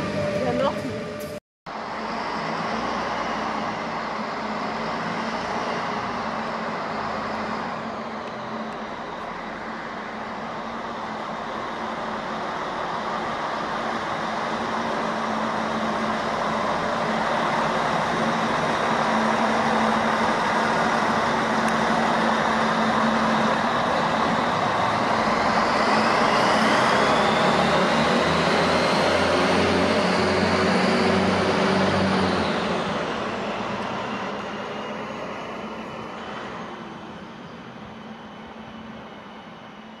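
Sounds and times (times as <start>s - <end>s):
diesel railcar passing: 0.0s - 40.0s
rising engine whine: 0.0s - 40.0s.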